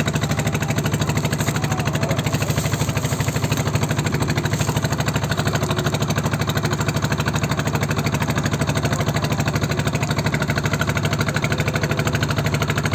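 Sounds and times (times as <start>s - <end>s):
small engine running: 0.0s - 12.9s.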